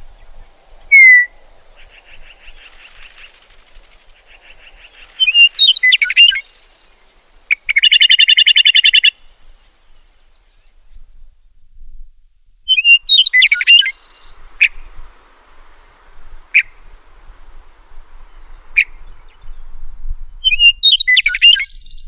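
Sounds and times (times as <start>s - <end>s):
meadowlark singing: 0.0s - 10.8s, 12.7s - 22.0s.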